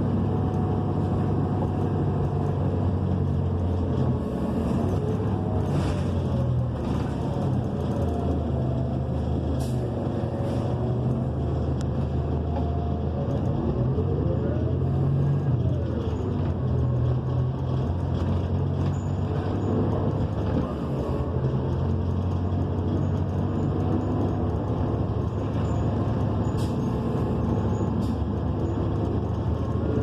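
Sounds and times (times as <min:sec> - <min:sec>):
bus engine and road noise hum: 0:00.0 - 0:30.0.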